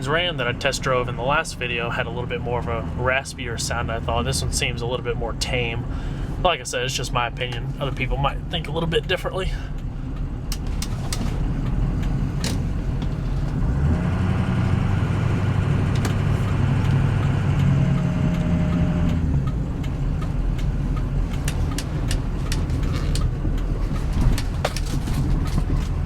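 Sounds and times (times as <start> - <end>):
diesel truck engine with whine: 0.0 - 26.0.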